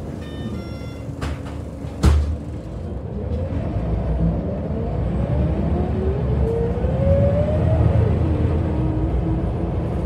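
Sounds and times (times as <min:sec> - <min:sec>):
bus engine accelerating with whine: 0:00.0 - 0:10.0.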